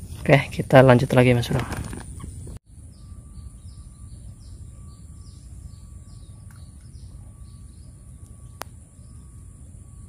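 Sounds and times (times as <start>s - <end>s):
birds chirping: 0.0s - 10.0s
low steady rumble: 0.0s - 10.0s.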